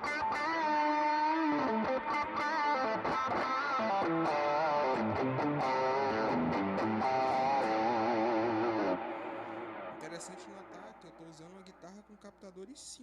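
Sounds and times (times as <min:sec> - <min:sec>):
overdriven electric guitar solo: 0:00.0 - 0:11.5.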